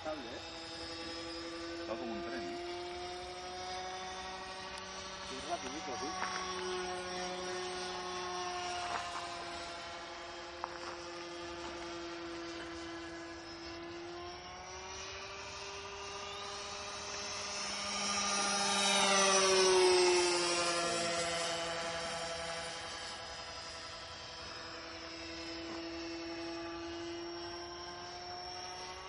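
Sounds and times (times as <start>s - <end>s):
model plane motor droning: 0.0s - 29.0s.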